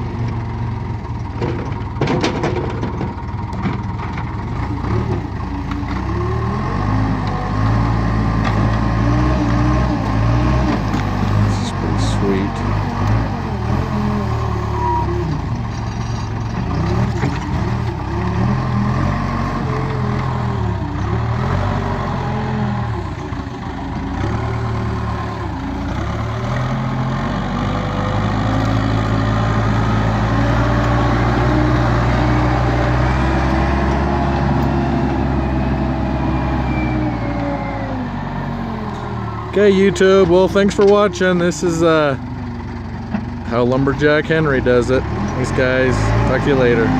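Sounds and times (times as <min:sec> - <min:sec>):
diesel engine revving under load: 0:00.0 - 0:46.9.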